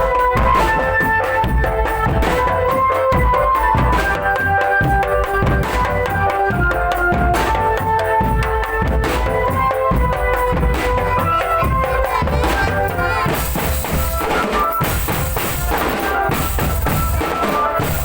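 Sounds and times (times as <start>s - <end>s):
bass and snare drums: 0.0s - 18.0s.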